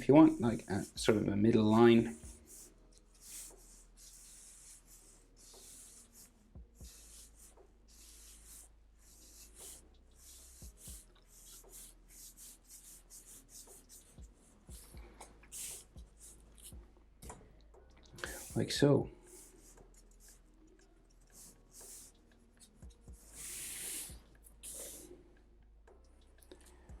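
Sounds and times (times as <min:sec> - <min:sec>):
pencil scratching on paper: 0:00.1 - 0:16.8, 0:18.2 - 0:25.2.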